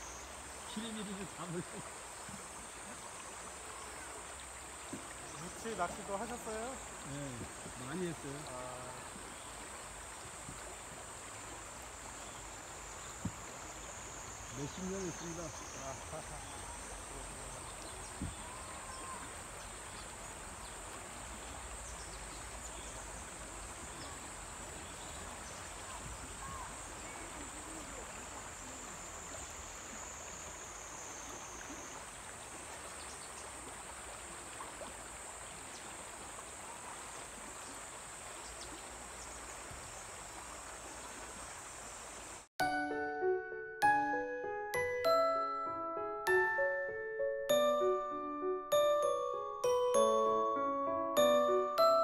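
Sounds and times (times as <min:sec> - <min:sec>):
water rushing over river riffle: 0:00.0 - 0:42.5.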